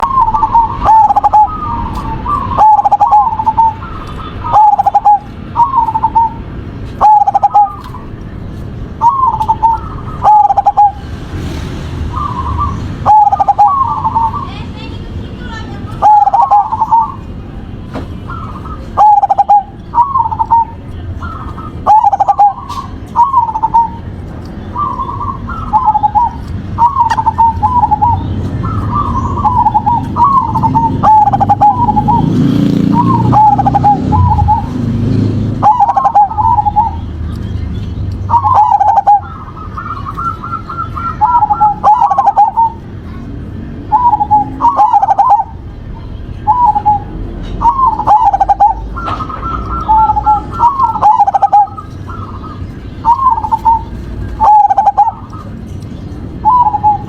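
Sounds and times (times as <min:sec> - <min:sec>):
dove cooing: 0:00.0 - 0:08.2, 0:09.0 - 0:11.5, 0:12.1 - 0:14.7, 0:15.6 - 0:17.6, 0:18.2 - 0:37.2, 0:38.3 - 0:43.2, 0:43.9 - 0:45.8, 0:46.4 - 0:55.8, 0:56.4 - 0:57.0.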